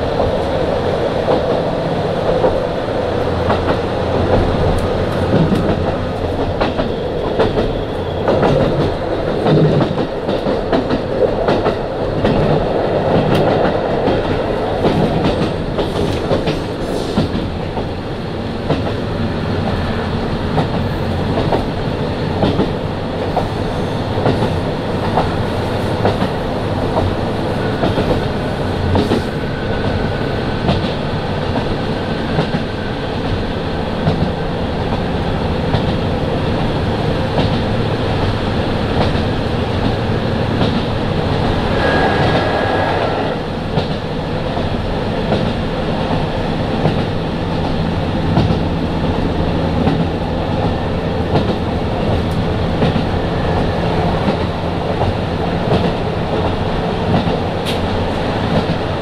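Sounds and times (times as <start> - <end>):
railcar engine drone: 0.0 - 59.0.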